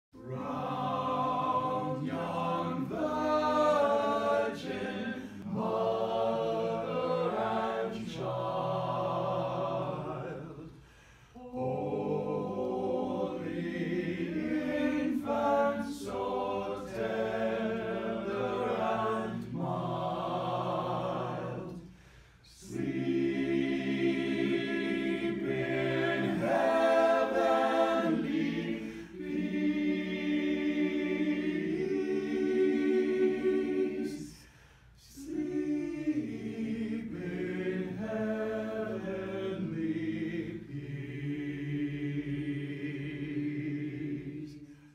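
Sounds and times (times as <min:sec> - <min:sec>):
men singing a cappella: 0:00.2 - 0:44.8.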